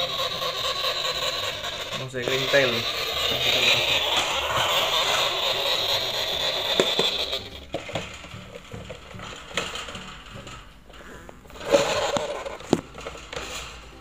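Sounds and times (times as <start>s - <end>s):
plastic box and wire cage clicking: 0.0s - 14.0s.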